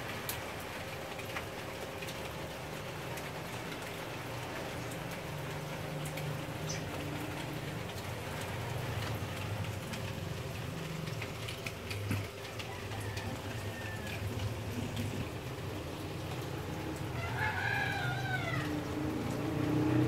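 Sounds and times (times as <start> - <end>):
sprinkler water pattering on leaves: 0.0 - 20.0.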